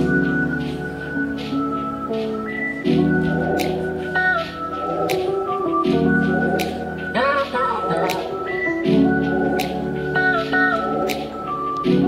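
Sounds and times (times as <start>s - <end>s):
light regular beat: 0.0s - 12.0s
whistled tune: 0.0s - 12.0s.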